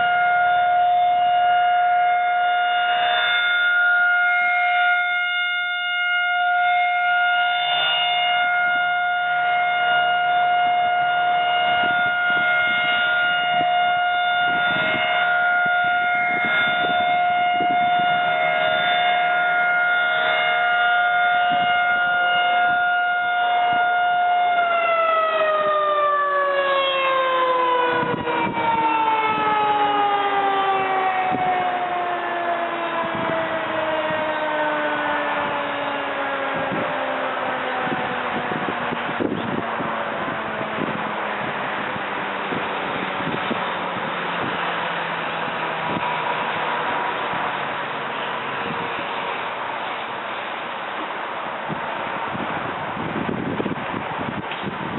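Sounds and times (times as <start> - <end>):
rotating warning siren: 0.0 - 50.7, 51.6 - 54.9.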